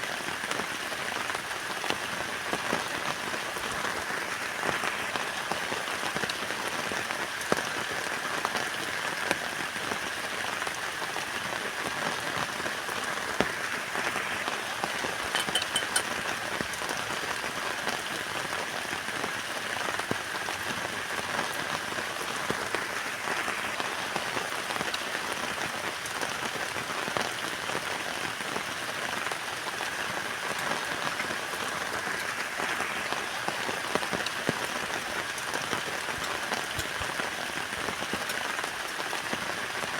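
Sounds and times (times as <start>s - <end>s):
heavy rain pattering on a tent: 0.0s - 39.9s.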